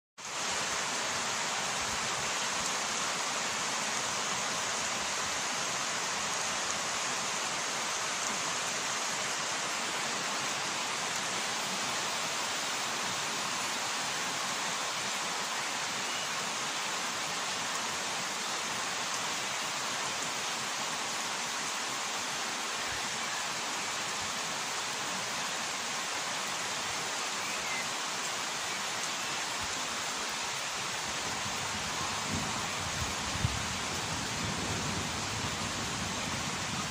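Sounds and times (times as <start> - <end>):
rain falling on trees: 0.2 - 36.9.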